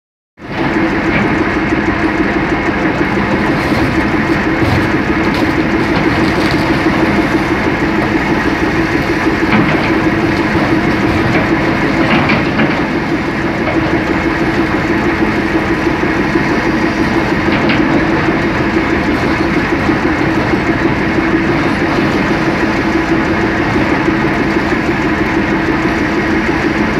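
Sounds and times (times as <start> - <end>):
excavator engine and hydraulics: 0.4 - 26.9.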